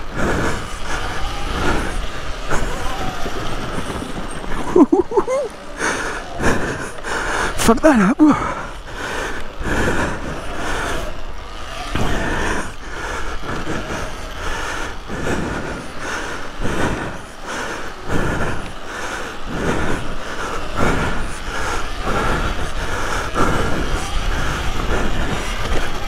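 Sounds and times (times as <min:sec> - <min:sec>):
electric motorbike motor whining: 0:00.0 - 0:26.0.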